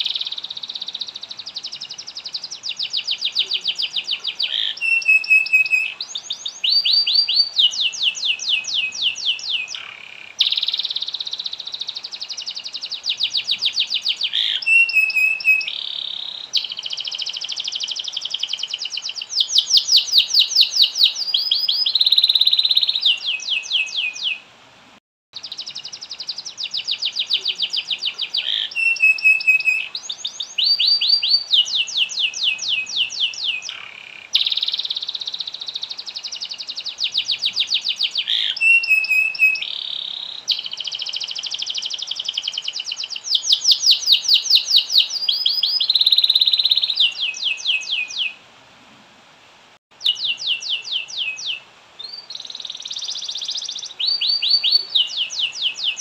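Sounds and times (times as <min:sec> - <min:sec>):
canary singing: 0:00.0 - 0:24.4, 0:25.4 - 0:48.4, 0:49.9 - 0:56.0.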